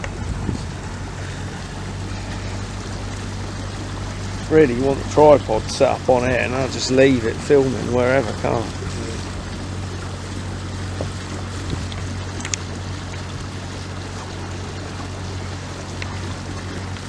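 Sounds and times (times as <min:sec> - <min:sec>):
boat engine humming: 0:00.0 - 0:17.0
water rushing: 0:00.0 - 0:17.0
wind: 0:00.0 - 0:17.0.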